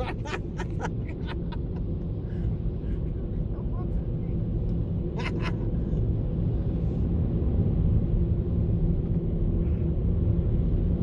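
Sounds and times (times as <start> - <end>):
low rumble and hum in car cabin: 0.0 - 11.0.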